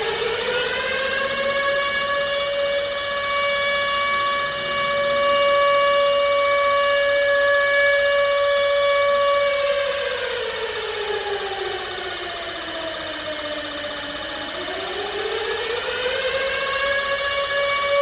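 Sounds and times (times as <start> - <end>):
siren wailing: 0.0 - 18.0.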